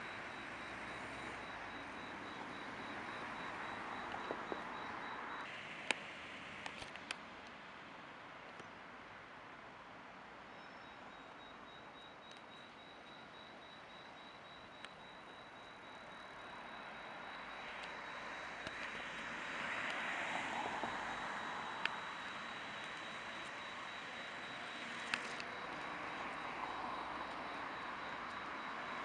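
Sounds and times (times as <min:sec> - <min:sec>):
thin steady high whine: 0:00.0 - 0:29.0.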